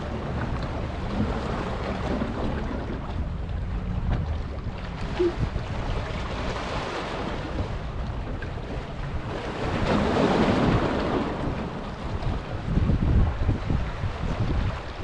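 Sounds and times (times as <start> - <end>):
sea noise: 0.0 - 15.0
wind buffeting microphone: 0.0 - 15.0.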